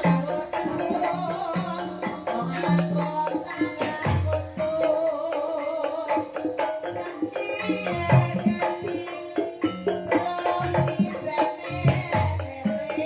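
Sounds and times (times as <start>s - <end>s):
gamelan music over sound system: 0.0s - 13.0s
hand drum beats: 0.0s - 13.0s.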